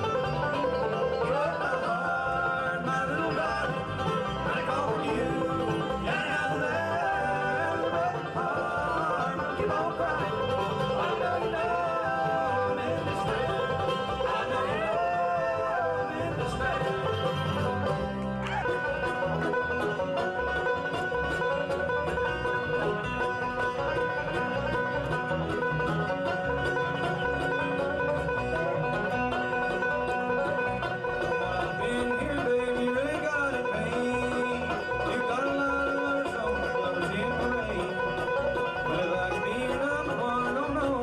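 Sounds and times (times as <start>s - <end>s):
bluegrass band playing: 0.0s - 41.0s
rapid banjo picking: 0.0s - 41.0s.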